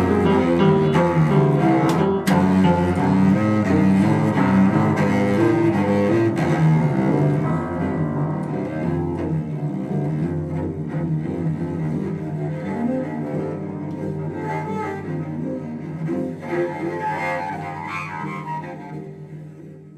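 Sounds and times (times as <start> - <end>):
cello bowed notes: 0.0 - 19.9
piano: 0.0 - 19.9.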